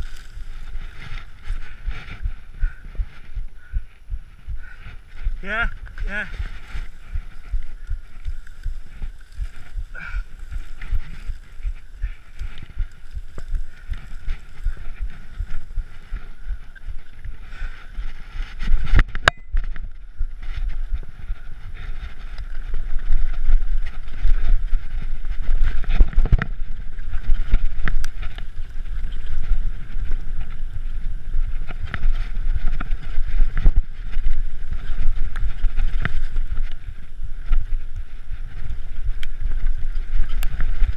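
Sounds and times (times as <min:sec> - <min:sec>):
bike rattling over stones: 0:00.0 - 0:03.3, 0:04.8 - 0:40.9
wind rumbling on microphone: 0:00.0 - 0:40.9.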